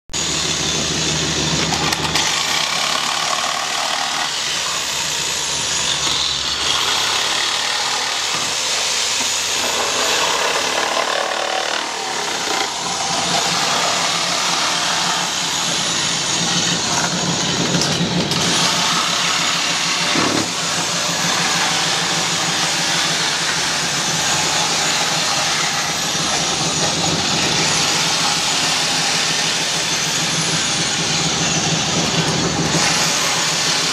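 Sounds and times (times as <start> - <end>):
loud mechanical din: 0.2 - 33.9.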